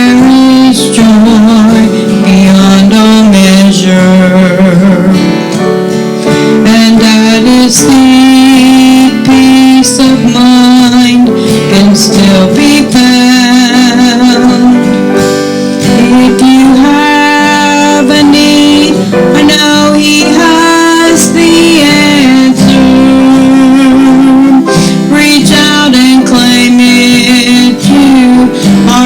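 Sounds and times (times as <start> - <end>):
slow guitar-led worship music: 0.0 - 29.0.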